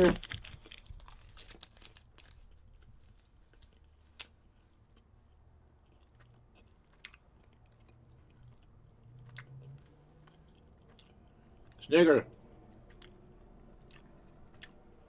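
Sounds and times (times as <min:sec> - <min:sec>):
chewing frozen candy bar: 0:00.0 - 0:15.0.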